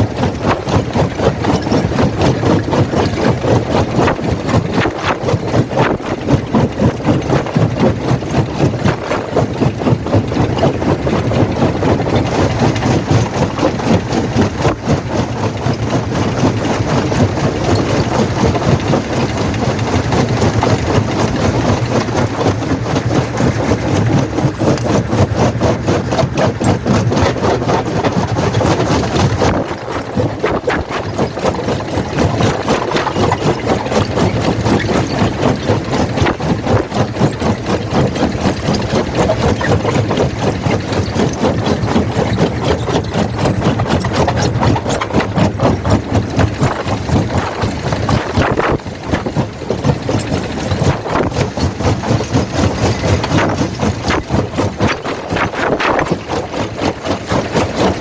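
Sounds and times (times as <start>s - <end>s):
jaw crusher machinery drone: 0.0s - 58.0s.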